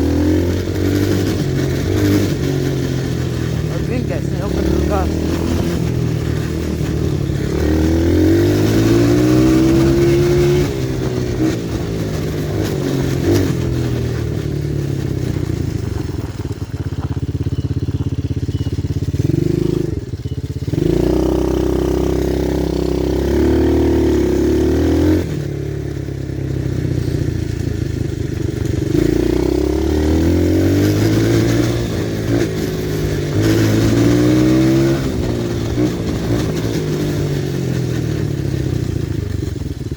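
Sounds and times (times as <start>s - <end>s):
pit bike engine revving: 0.0s - 27.2s, 28.0s - 39.9s.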